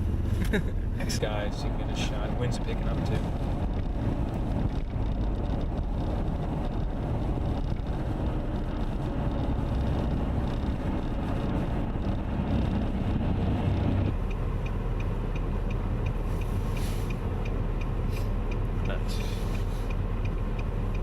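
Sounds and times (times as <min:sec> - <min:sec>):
faint regular ticking: 0:01.4 - 0:12.4, 0:14.1 - 0:21.0.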